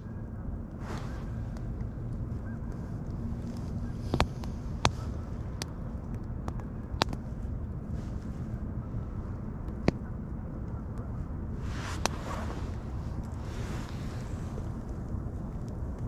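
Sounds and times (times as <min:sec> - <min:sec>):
wind rumble on microphone: 0:00.0 - 0:16.0
wood bonfire crackling: 0:00.0 - 0:16.0.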